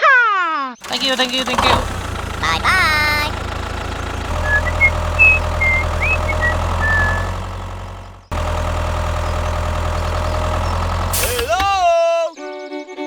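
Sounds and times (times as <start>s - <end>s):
vehicle engine idling: 0.8s - 12.0s.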